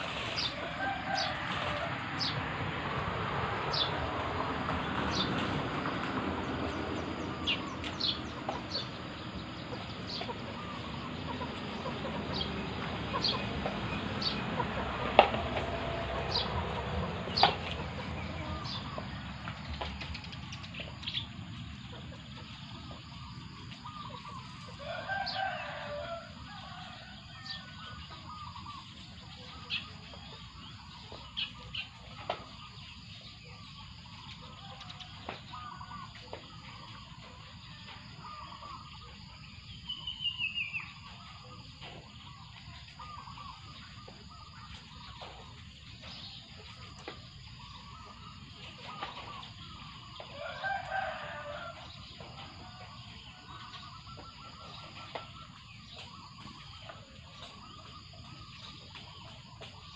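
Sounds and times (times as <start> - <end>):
chickens clucking: 0.0 - 40.1, 40.8 - 59.9.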